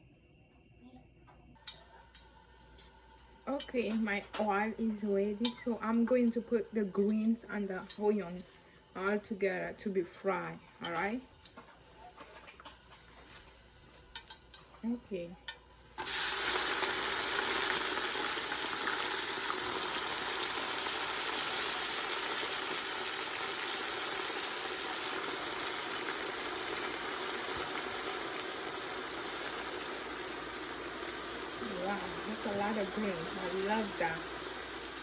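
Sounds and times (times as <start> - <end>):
vegetables sizzling in hot oil: 1.6 - 11.6, 12.3 - 35.0.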